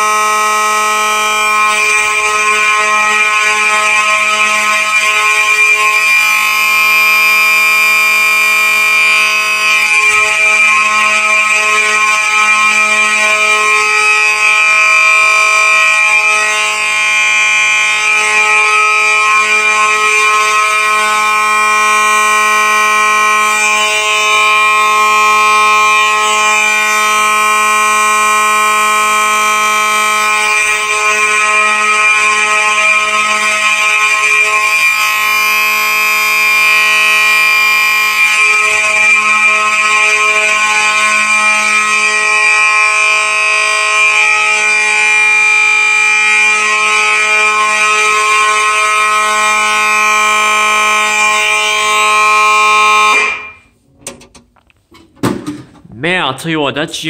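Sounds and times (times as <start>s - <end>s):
electronic alarm horn: 0.0s - 54.2s
electromechanical alarm horn: 0.0s - 54.6s.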